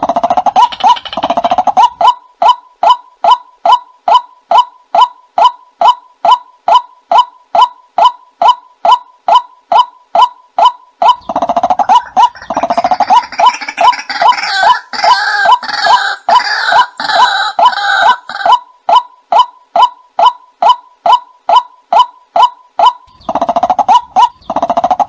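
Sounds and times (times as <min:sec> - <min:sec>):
overlapping bird calls: 0:00.0 - 0:25.0.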